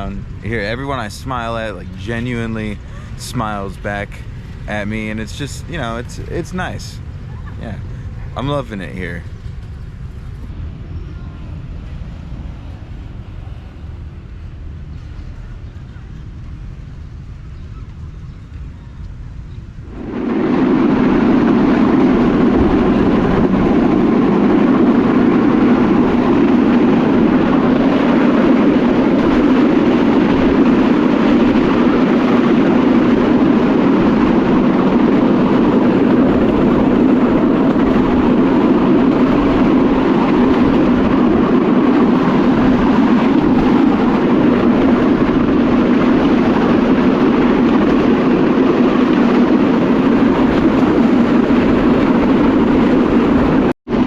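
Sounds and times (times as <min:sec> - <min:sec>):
train engine and wheels droning: 0:00.0 - 0:54.0.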